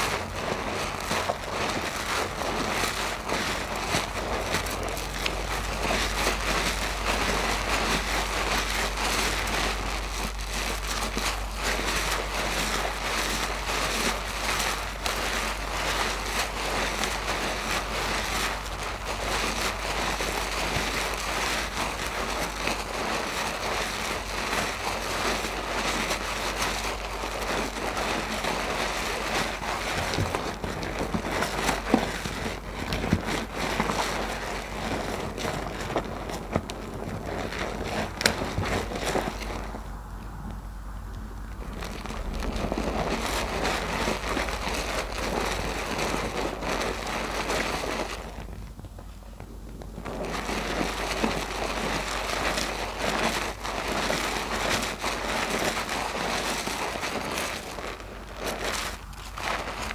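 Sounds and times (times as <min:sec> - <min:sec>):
wet squelching of soapy loofah: 0:00.0 - 0:59.9.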